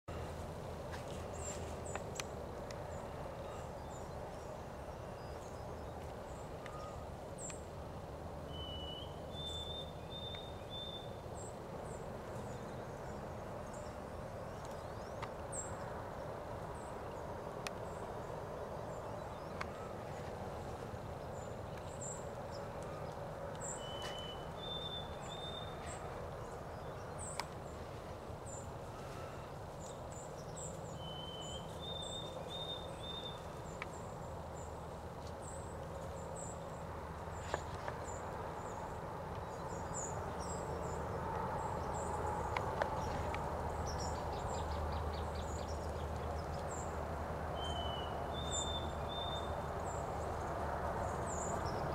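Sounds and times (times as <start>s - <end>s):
outdoor background noise: 0.0s - 51.9s
small birds chirping: 0.9s - 7.9s, 8.5s - 51.9s.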